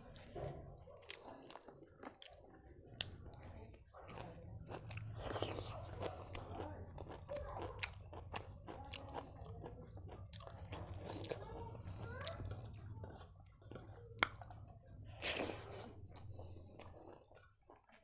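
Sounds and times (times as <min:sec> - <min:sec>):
wet chewing mouth sounds: 0:03.0 - 0:18.0.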